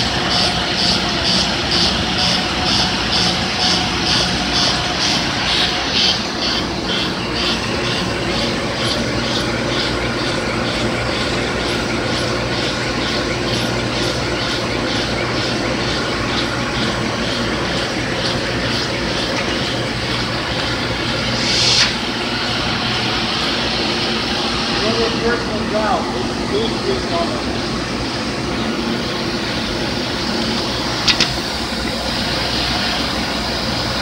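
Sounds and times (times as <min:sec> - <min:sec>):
machine hum of belts and rollers: 0:00.0 - 0:34.0.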